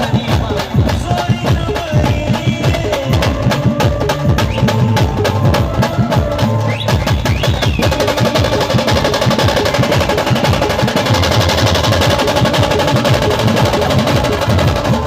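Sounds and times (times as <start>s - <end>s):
heavy fast drumming: 0.0s - 15.0s
held melody line: 0.0s - 15.0s.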